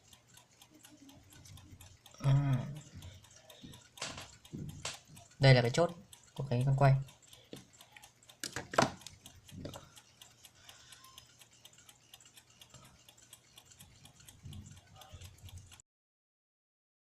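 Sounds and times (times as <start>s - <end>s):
clicks of metal clock parts: 0.0s - 15.8s
mechanical clock ticking: 0.0s - 15.8s.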